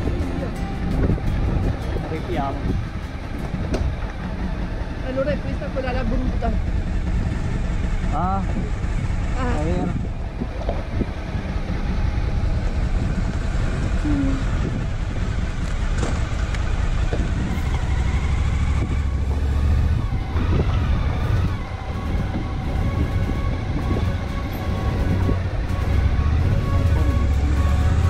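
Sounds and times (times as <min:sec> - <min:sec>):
motorcycle engine low rumble: 0:00.0 - 0:28.0.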